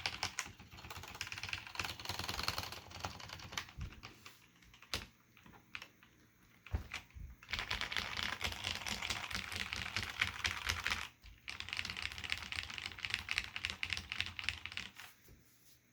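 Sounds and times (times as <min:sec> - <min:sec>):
mechanical keyboard typing: 0:00.0 - 0:15.1.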